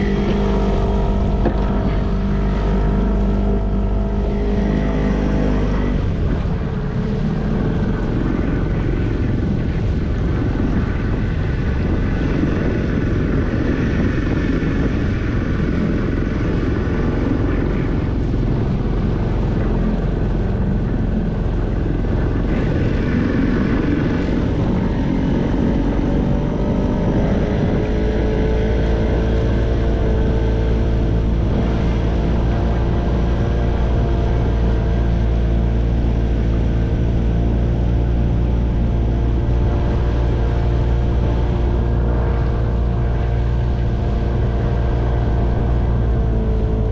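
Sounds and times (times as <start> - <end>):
outboard motor running: 0.0 - 46.9
water rushing along hull: 0.0 - 46.9.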